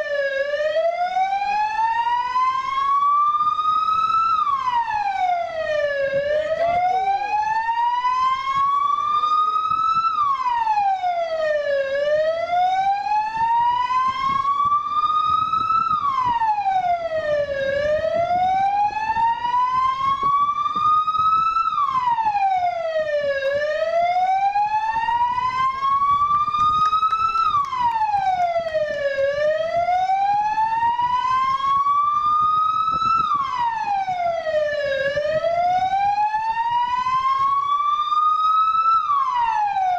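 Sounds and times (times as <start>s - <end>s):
vehicle siren wailing: 0.0s - 39.9s.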